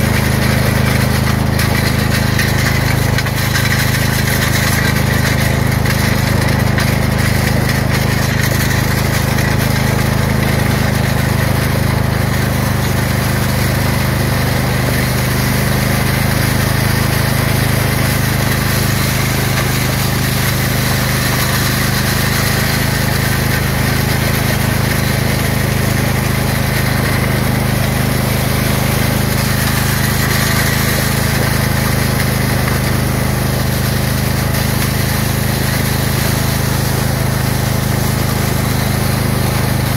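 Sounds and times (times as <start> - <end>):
lawn tractor engine running: 0.0 - 39.9
wooden plane scraping gravel: 0.0 - 39.9.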